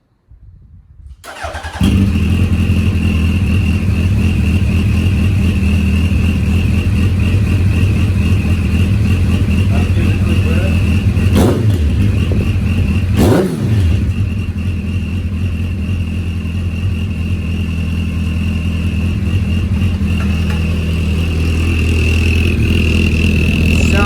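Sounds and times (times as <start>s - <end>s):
engine rev blip: 1.2s - 24.0s
motorcycle engine idling: 1.3s - 24.0s.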